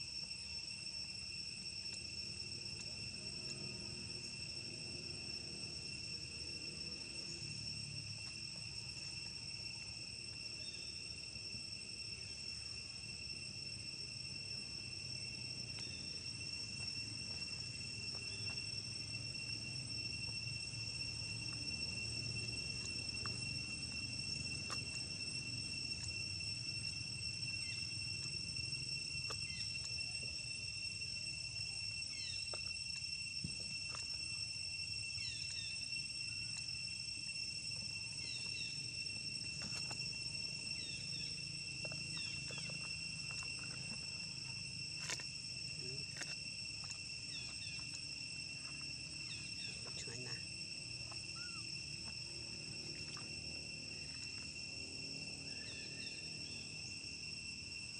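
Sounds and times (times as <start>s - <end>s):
insect drone: 0.0s - 57.9s.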